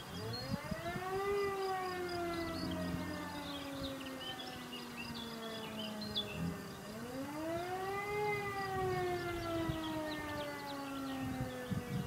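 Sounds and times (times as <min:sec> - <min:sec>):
birds chirping faintly: 0:00.0 - 0:12.0
electric siren wailing: 0:00.0 - 0:12.0.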